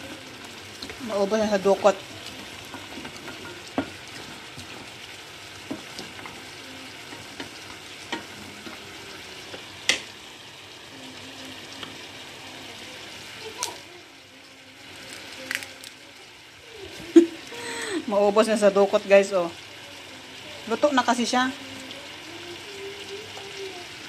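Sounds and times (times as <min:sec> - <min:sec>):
liquid sizzling in a pan: 0:00.0 - 0:24.0.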